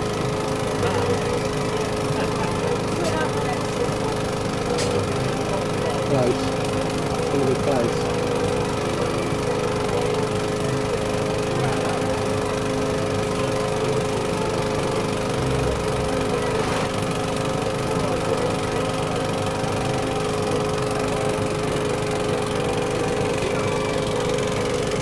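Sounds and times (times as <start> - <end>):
model steam tractor running: 0.0 - 25.0.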